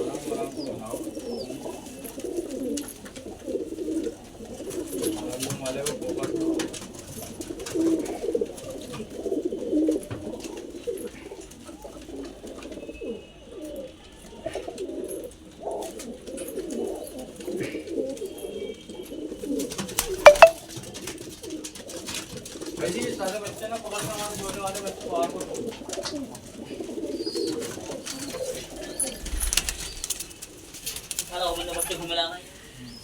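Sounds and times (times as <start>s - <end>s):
pigeons cooing: 0.0s - 19.9s, 24.0s - 33.0s.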